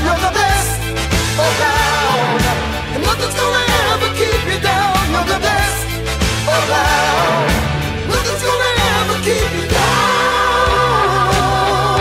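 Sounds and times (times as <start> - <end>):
sustained bass notes: 0.0 - 12.0.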